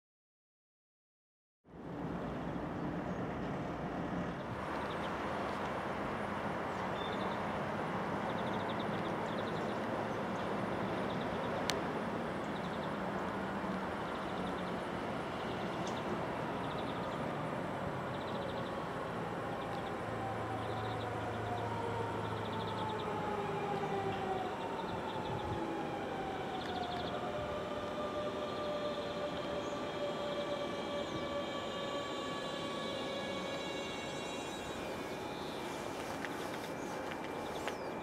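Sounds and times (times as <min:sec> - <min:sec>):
train rumbling: 0:01.8 - 0:38.0.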